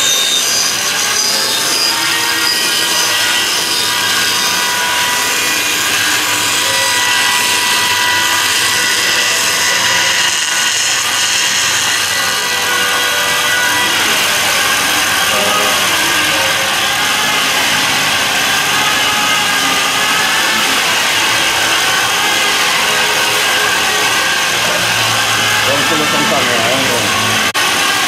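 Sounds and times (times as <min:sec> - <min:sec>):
power tool whining: 0:00.0 - 0:28.0.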